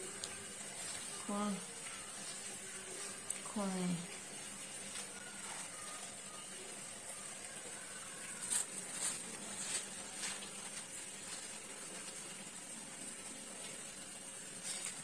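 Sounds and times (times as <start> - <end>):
steady faint hiss: 0.0 - 15.0
tissue paper rustling: 0.0 - 15.0.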